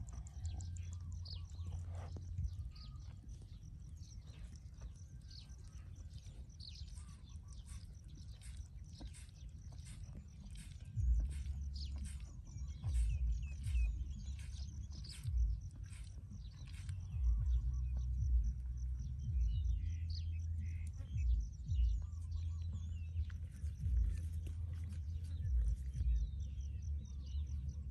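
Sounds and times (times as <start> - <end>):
birds chirping: 0.0 - 27.9
wind buffeting microphone: 0.0 - 27.9.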